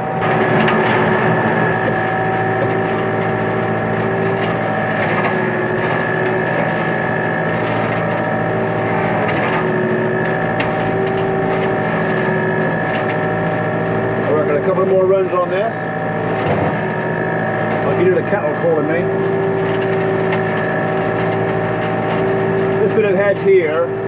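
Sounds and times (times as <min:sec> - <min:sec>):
hedge trimmer whine: 0:00.0 - 0:24.0
tractor engine running: 0:00.0 - 0:24.0.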